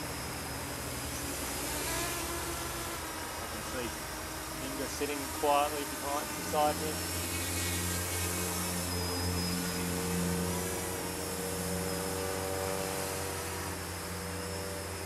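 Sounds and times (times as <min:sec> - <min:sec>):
faint high whine: 0:00.0 - 0:15.0
small drone motors humming: 0:00.0 - 0:15.0.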